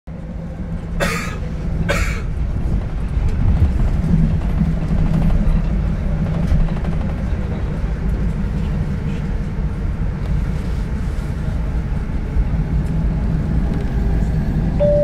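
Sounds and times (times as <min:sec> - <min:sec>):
train rumbling on rails: 0:00.1 - 0:15.0.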